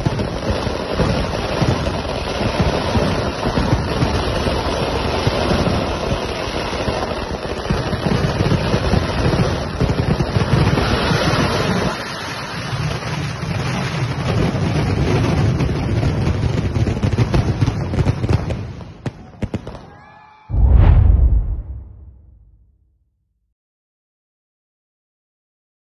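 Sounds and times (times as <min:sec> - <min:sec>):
fireworks crackling and banging: 0:00.0 - 0:22.6.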